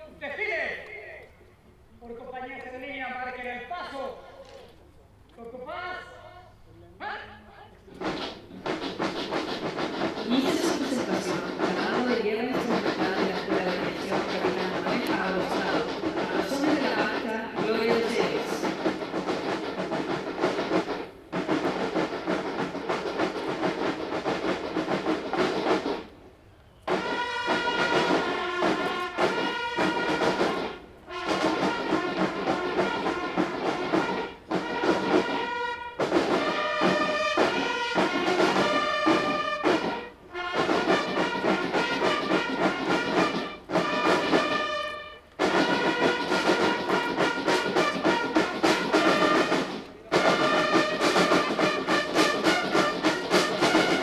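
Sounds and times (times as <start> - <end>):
drum and bugle band march: 7.9 - 54.0.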